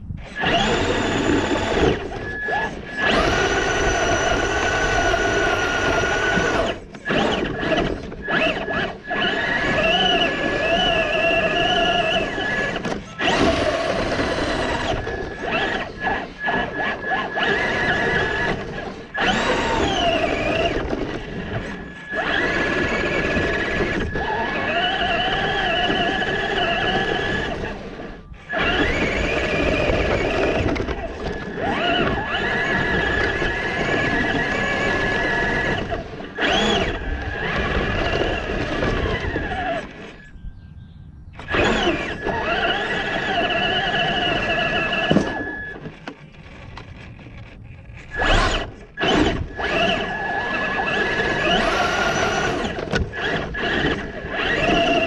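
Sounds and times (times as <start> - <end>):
electric motor whining: 0.0 - 55.0.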